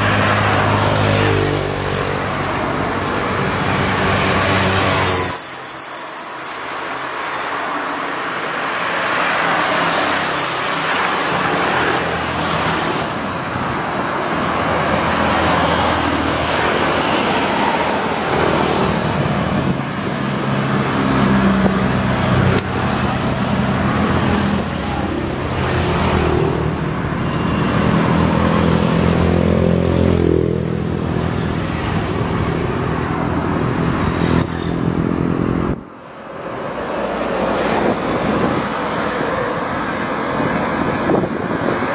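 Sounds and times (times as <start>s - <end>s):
road traffic going by: 0.0s - 41.9s.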